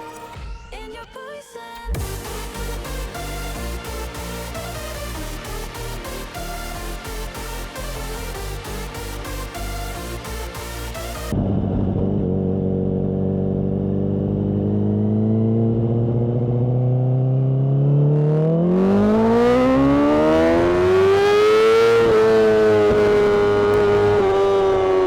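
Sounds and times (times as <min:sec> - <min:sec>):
motorcycle engine revving: 0:02.0 - 0:25.0.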